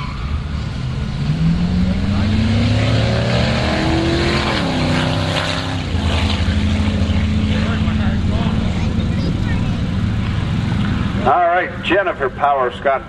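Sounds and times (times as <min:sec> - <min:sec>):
car engine accelerating hard: 0:00.2 - 0:13.0.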